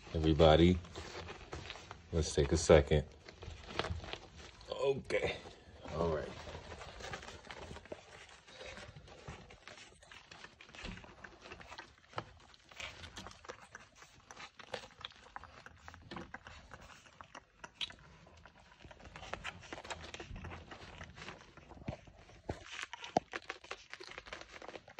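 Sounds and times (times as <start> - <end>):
puppies suckling: 0.0 - 24.9.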